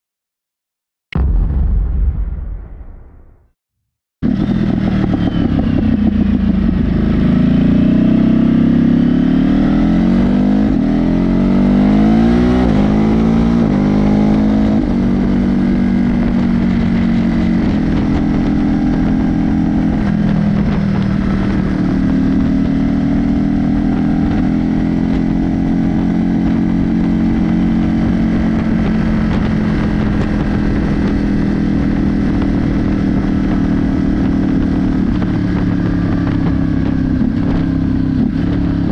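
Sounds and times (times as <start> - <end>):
motorcycle engine revving: 4.2 - 38.9.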